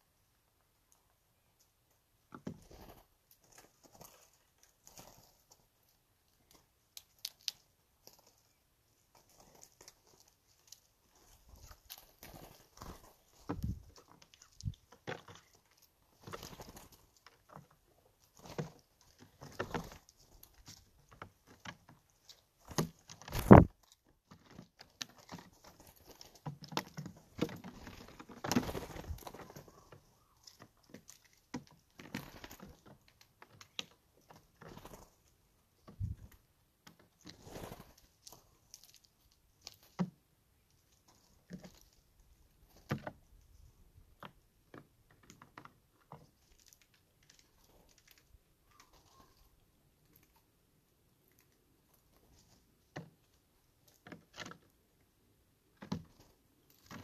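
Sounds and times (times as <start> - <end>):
birds pecking at peanuts: 0.5 - 57.0
birds hopping and landing: 1.7 - 50.5.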